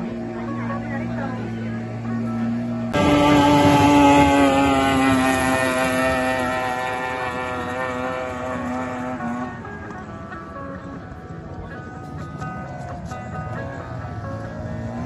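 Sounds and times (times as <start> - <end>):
speedboat outboard motor whine: 0.0 - 15.0.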